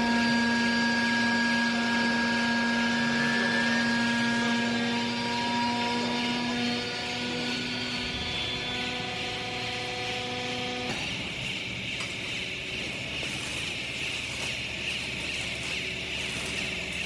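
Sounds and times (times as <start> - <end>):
baler motor and pump humming: 0.0 - 17.0.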